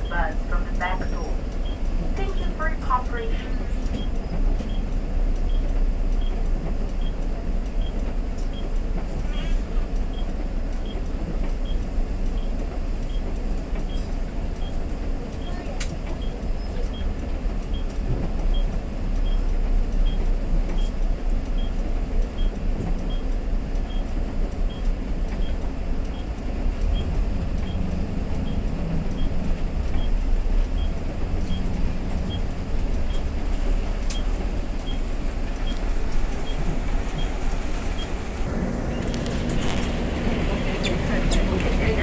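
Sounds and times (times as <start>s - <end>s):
bus engine rumble: 0.0s - 42.0s.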